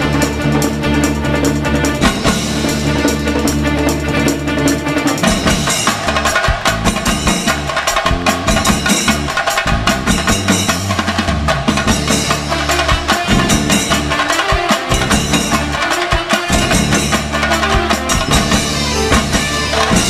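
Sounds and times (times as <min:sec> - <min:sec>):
steady bass line: 0:00.0 - 0:14.3, 0:16.5 - 0:20.0
rapid dense drumming: 0:00.0 - 0:20.0.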